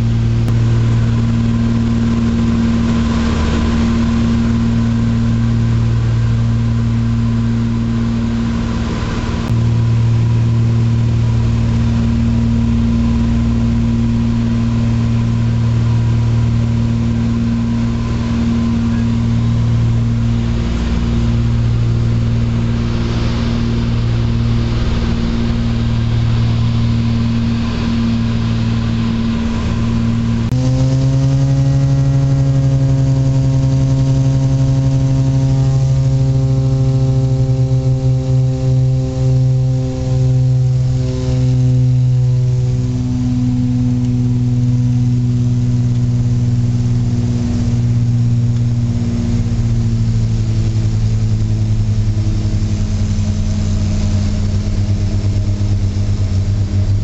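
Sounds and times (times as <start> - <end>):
aircraft cabin engine drone: 0.0 - 57.0.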